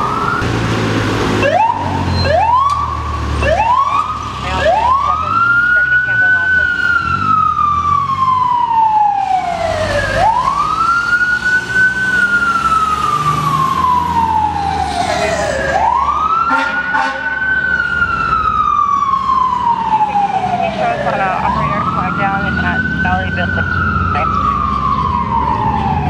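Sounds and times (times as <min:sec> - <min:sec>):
fire engine siren wailing: 0:00.0 - 0:26.0.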